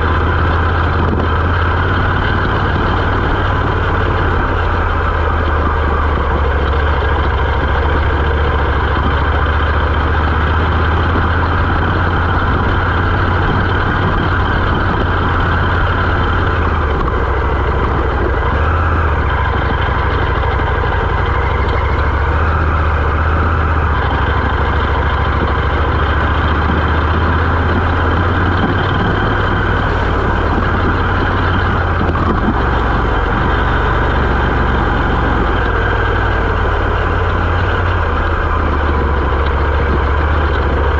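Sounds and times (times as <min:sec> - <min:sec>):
motorcycle engine at low revs: 0:00.0 - 0:40.9
steady rush of noise: 0:00.0 - 0:40.9.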